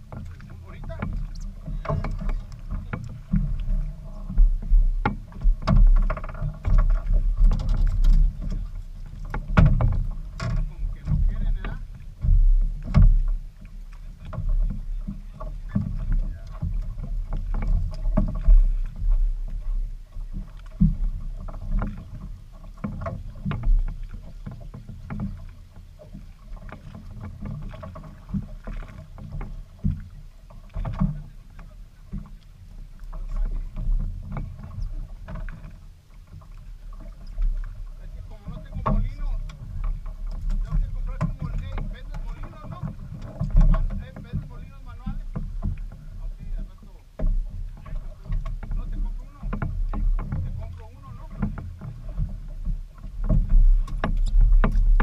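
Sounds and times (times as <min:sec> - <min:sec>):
water knocking on boat hull: 0:00.0 - 0:35.8, 0:36.4 - 0:55.0.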